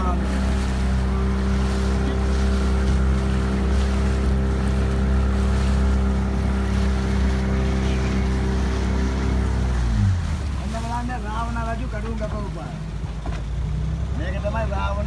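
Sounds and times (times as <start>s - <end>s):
motorboat engine humming: 0.0s - 15.0s
water rushing along hull: 0.0s - 15.0s
wind: 0.0s - 15.0s.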